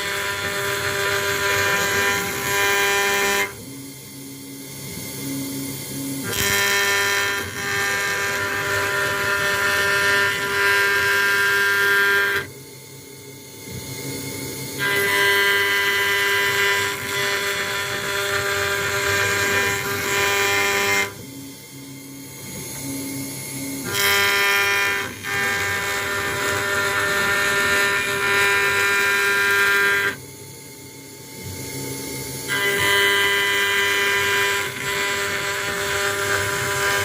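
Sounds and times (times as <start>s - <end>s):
router spindle whine: 0.0s - 37.0s.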